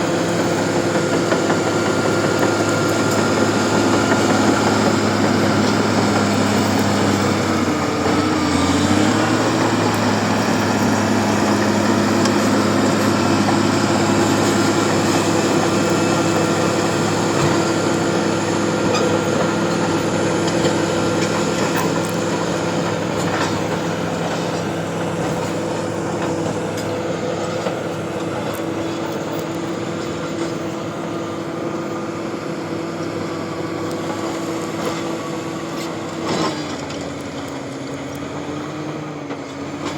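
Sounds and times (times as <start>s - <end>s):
bulldozer diesel engine running: 0.0s - 39.9s
crawler tracks clanking: 0.0s - 39.9s.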